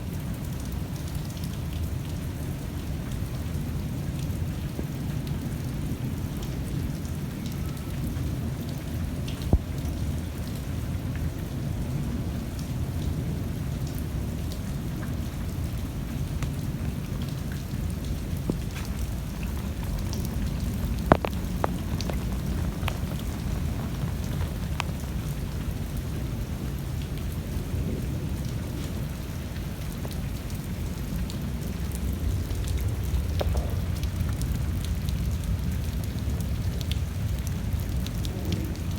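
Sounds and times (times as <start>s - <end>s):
rain falling: 0.0s - 38.9s
sharp drips and taps: 0.5s - 11.8s, 12.4s - 27.2s, 28.4s - 38.3s.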